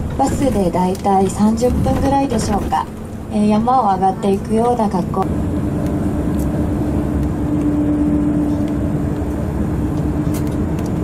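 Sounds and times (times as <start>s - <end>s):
coach engine and road noise: 0.0s - 11.0s.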